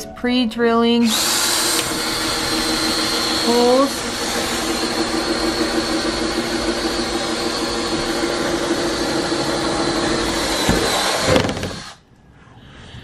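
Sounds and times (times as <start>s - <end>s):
cordless drill drilling sheet metal: 1.0s - 12.0s.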